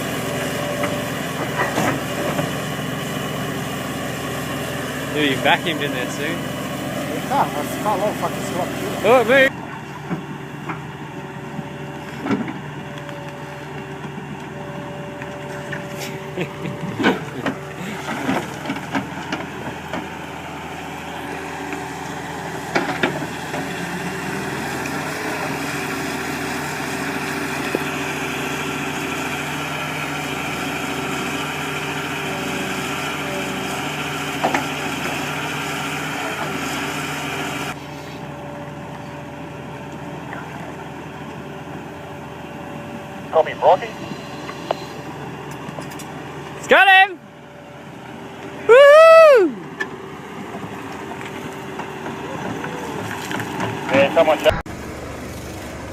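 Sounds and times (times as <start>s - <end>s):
heavy machine engine running: 0.0s - 55.9s.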